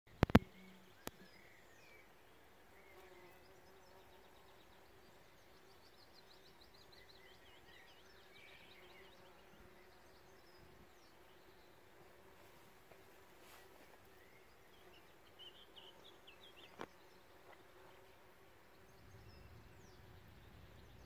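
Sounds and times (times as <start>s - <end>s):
small birds singing: 0.1s - 21.0s.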